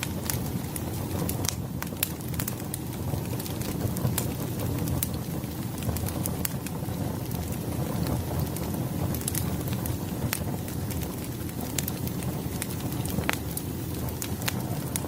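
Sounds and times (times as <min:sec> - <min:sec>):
fire crackles and pops: 0:00.0 - 0:15.0
firewood burning: 0:00.0 - 0:15.0.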